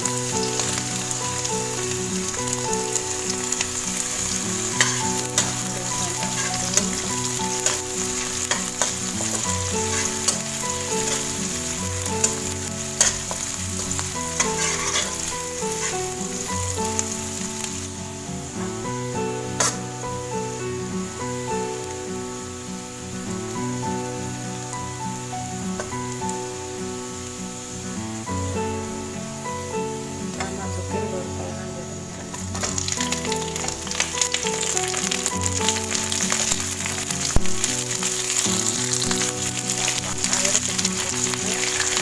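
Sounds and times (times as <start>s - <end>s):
shallots and garlic sizzling in oil: 0.0s - 42.0s.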